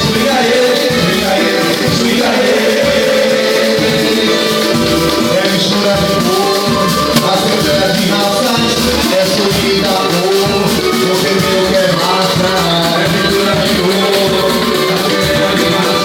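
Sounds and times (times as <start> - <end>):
samba music: 0.0 - 16.0.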